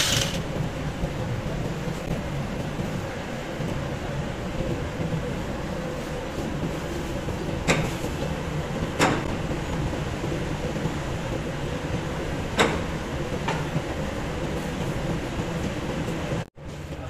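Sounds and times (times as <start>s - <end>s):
mill machinery rumbling: 0.0s - 17.0s.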